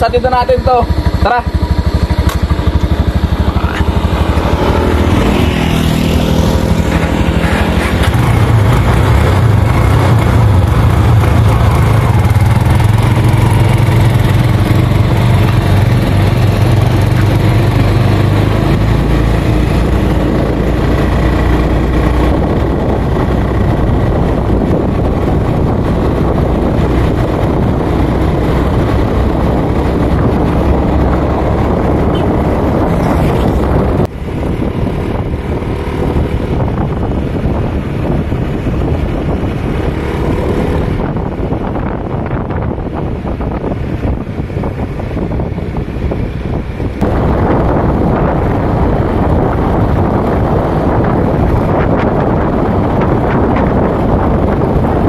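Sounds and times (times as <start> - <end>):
motorcycle engine pulling away: 0.9 - 55.0.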